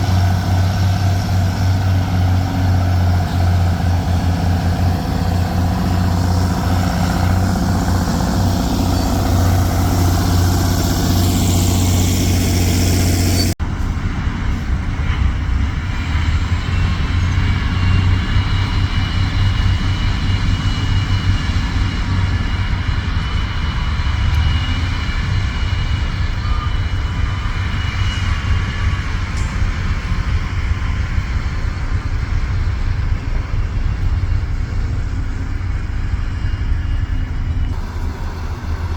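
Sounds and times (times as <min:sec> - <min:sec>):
diesel truck engine rumbling: 0:00.0 - 0:38.9.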